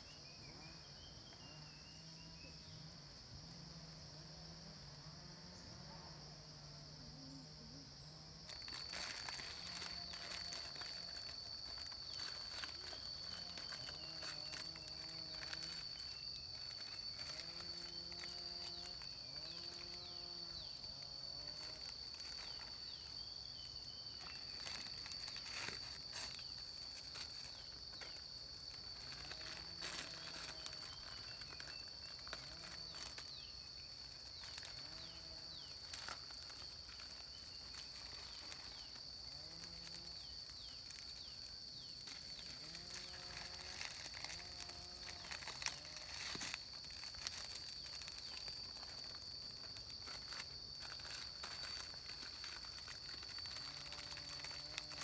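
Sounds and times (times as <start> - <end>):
high-pitched insect drone: 7.2 - 55.0
packets tearing and crinkling: 8.5 - 55.0.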